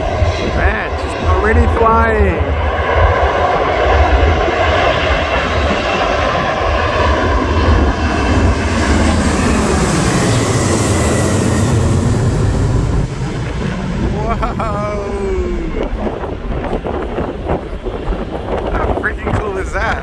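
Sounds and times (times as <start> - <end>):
jet engine roar with whine: 0.0 - 20.0.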